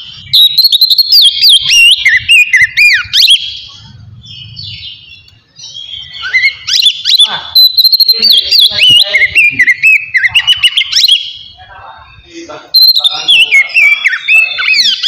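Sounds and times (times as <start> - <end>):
bird singing whistles and chirps: 0.0 - 11.6, 12.8 - 15.0.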